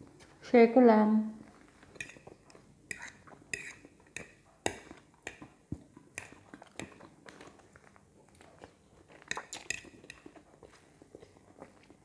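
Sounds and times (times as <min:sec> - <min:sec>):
soft chewing: 0:01.4 - 0:12.0.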